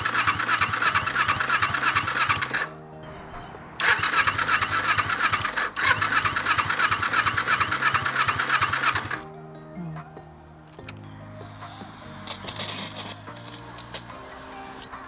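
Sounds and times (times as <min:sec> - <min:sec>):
motorcycle engine cranking: 0:00.0 - 0:09.3, 0:10.6 - 0:15.0.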